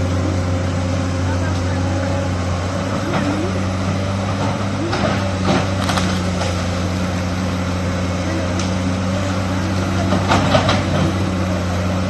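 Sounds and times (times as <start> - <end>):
excavator diesel engine: 0.0 - 12.0.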